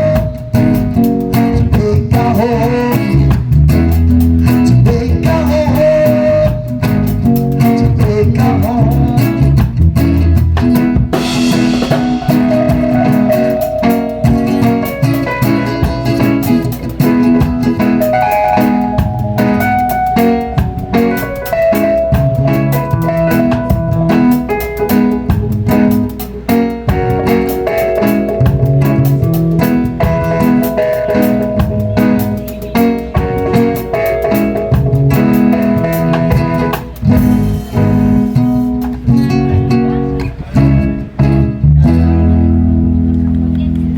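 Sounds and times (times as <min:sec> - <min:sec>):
drum kit cymbal beat: 0:00.0 - 0:39.5
keyboard chords and melody: 0:00.0 - 0:43.9
live band music: 0:00.0 - 0:43.9.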